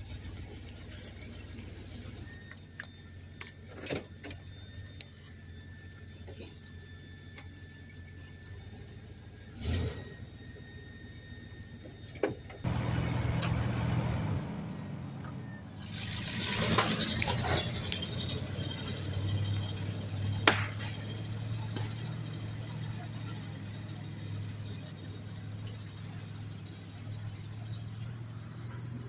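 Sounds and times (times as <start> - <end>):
engine starting and running: 0.0 - 29.0.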